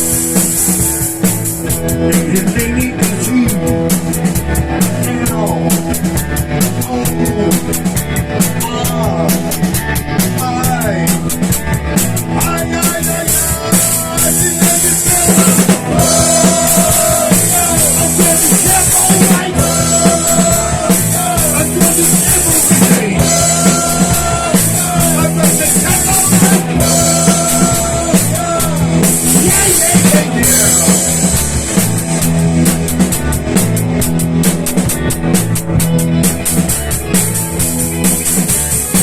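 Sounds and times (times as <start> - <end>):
instrumental rock music: 0.0 - 39.0.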